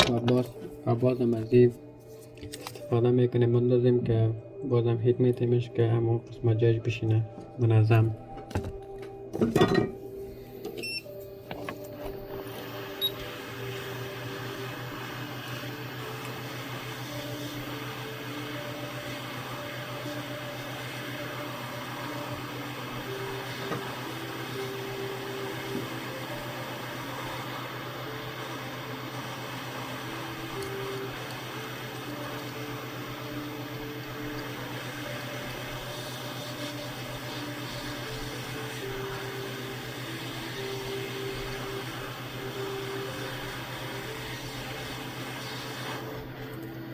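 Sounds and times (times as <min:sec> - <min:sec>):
hot-air station blowing with hum: 0:06.6 - 0:46.9.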